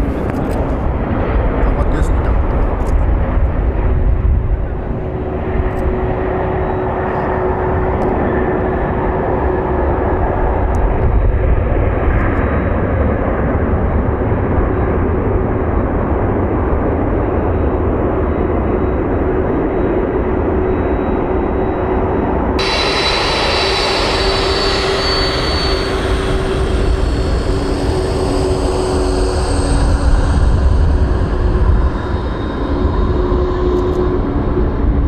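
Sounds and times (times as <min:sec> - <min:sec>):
jet airliner engines rushing: 0:00.0 - 0:35.0
thin jet engine whine: 0:00.0 - 0:35.0.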